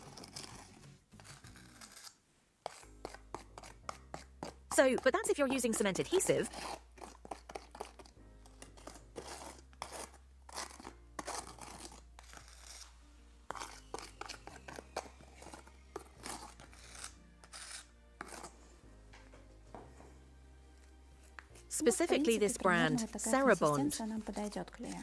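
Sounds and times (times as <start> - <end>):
tool stirring thick adhesive: 0.0 - 18.7, 20.8 - 25.0
quiet background music: 0.0 - 25.0.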